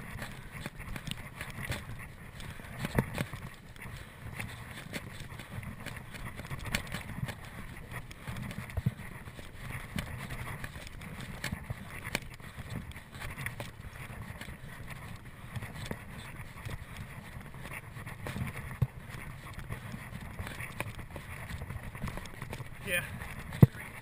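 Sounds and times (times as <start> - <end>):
bike tyres rolling on dirt: 0.0 - 24.0.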